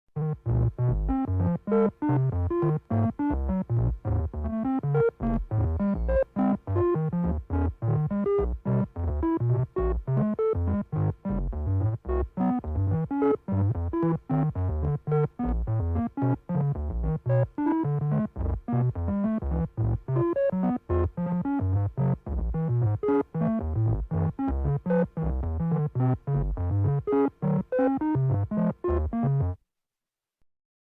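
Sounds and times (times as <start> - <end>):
electronic synthesizer tones: 0.2 - 29.6.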